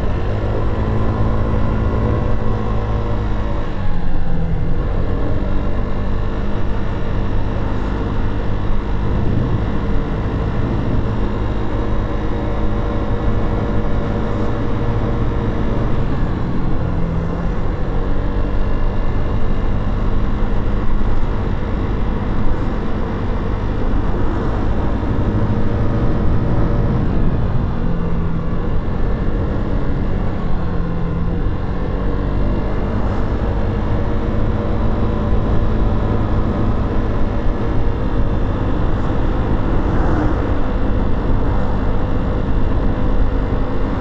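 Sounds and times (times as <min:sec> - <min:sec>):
motorcycle engine running: 0:00.0 - 0:44.0
road and wind noise: 0:00.0 - 0:44.0.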